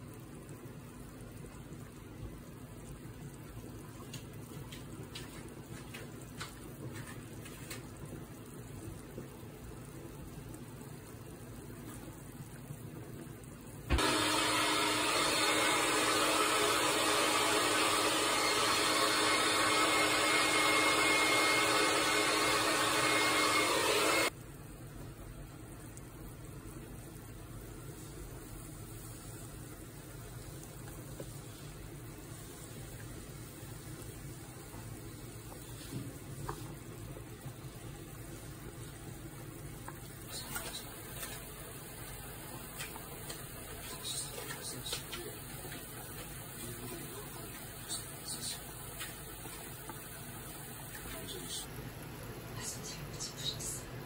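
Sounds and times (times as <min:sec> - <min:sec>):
broth bubbling in a pot: 0:00.0 - 0:23.6, 0:24.2 - 0:52.6.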